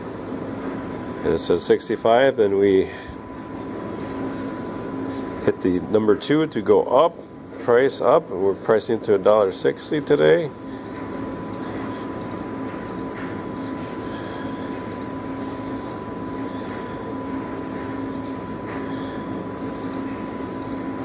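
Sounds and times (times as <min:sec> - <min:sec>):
vending machine hum: 0:00.0 - 0:21.0.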